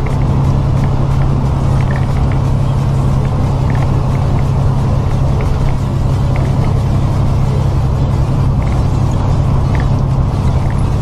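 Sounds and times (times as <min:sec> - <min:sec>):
road noise: 0:00.0 - 0:11.0
truck engine droning: 0:00.0 - 0:11.0.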